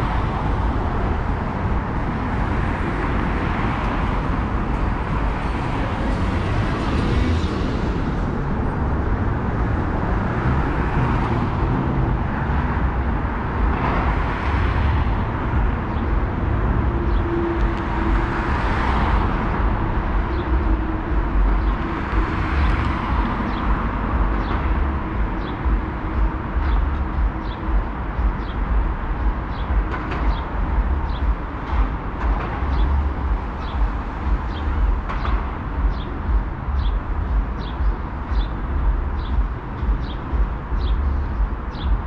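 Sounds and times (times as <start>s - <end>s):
cars passing: 0.0s - 42.0s
low traffic rumble: 0.0s - 42.0s.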